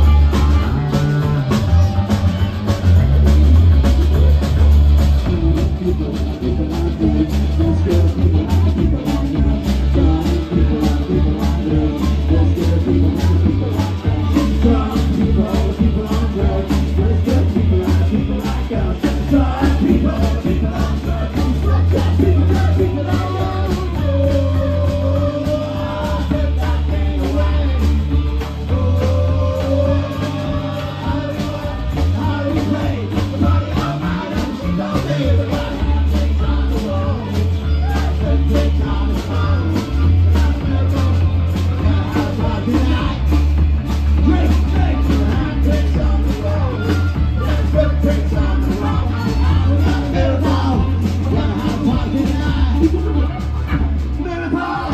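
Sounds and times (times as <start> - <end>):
bass line: 0.0 - 54.9
drum beat: 0.0 - 54.9.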